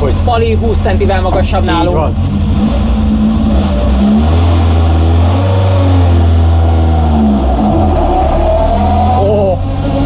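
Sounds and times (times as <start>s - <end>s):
car engine pulling away: 0.0s - 10.0s.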